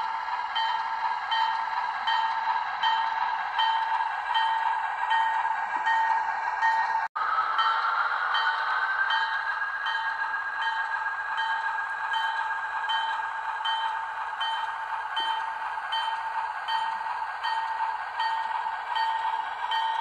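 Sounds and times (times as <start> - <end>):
model locomotive bell ringing: 0.0 - 20.0.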